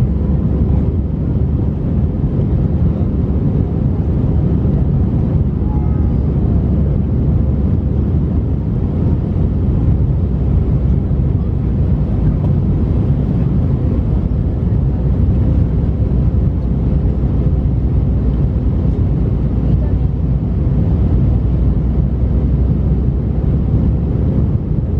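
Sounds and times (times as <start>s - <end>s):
airplane cabin engine roar: 0.0s - 24.9s
rushing airflow: 0.0s - 24.9s.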